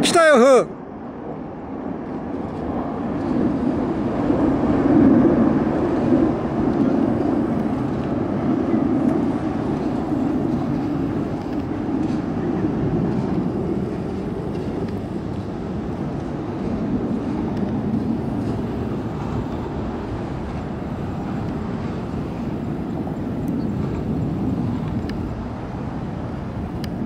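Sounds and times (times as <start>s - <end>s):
distant jets passing overhead: 0.0s - 27.0s.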